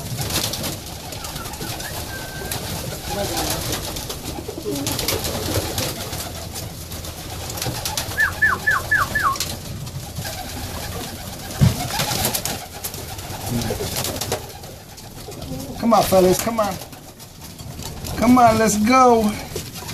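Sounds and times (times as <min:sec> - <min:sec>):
pigeons cooing: 0:00.0 - 0:19.9
wings flapping: 0:00.0 - 0:19.9.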